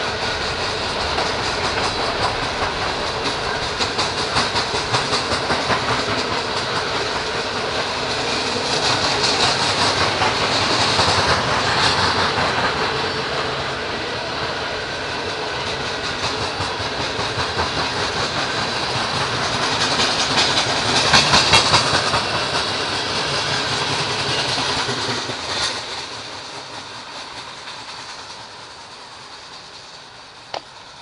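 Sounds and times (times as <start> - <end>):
train wheels clacking on rails: 0.0 - 31.0.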